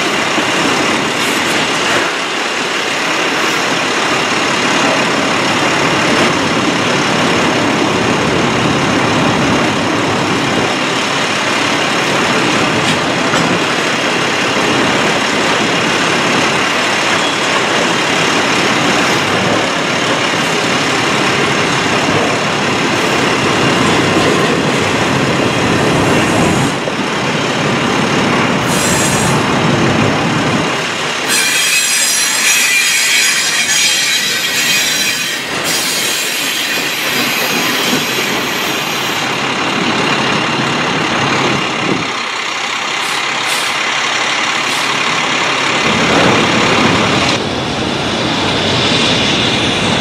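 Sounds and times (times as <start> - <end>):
steel wheels on rails: 0.0 - 50.0.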